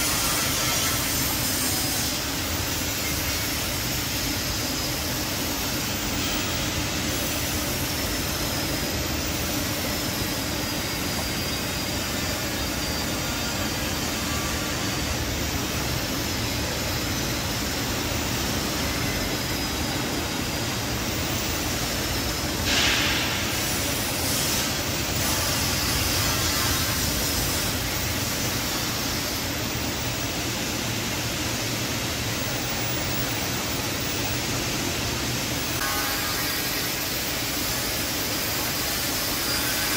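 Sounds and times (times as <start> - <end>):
motors and conveyor running: 0.0 - 39.9.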